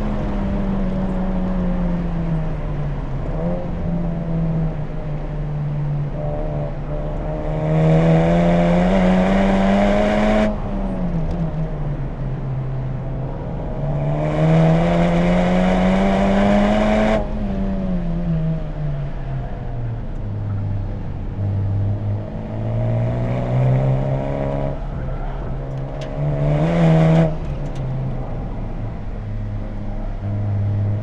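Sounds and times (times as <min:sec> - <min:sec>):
car engine accelerating hard: 0:00.0 - 0:12.2, 0:12.9 - 0:31.0.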